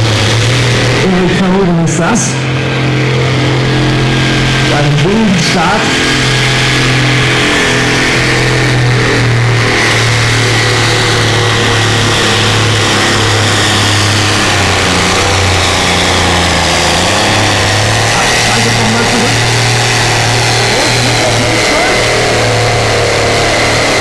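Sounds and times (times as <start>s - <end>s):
tractor diesel engine under heavy load: 0.0s - 24.0s.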